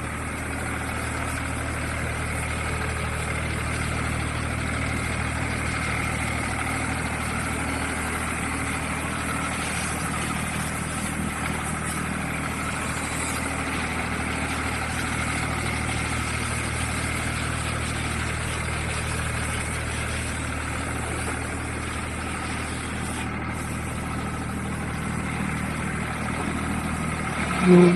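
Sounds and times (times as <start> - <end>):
excavator engine running: 0.0 - 27.9.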